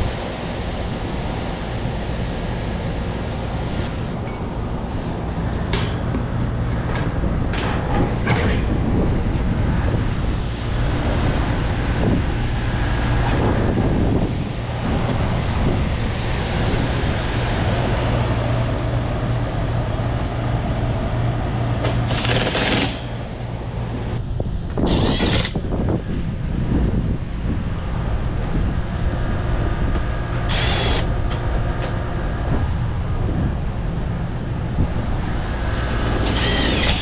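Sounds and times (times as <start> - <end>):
air conditioning unit humming: 0.0 - 37.0.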